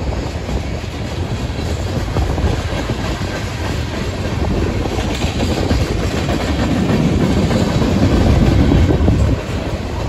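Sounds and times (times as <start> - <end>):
freight train wheels rumbling on rails: 0.0 - 10.0.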